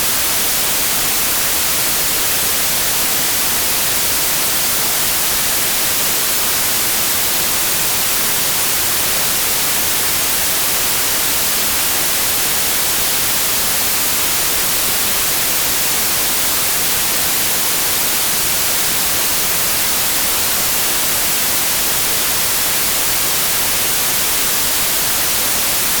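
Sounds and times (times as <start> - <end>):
white noise hiss: 0.0 - 26.0.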